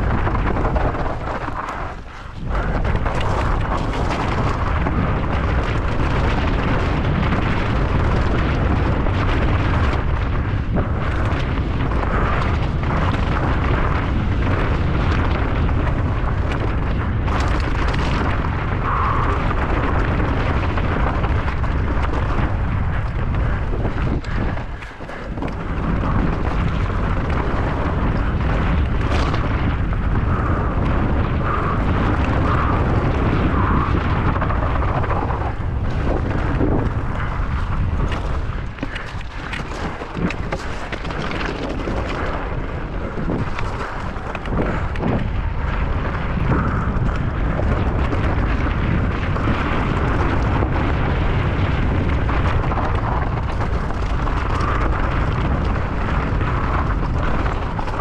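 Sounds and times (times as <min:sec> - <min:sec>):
bike rattling over rough ground: 0:00.0 - 0:58.0
wind buffeting microphone: 0:00.0 - 0:58.0.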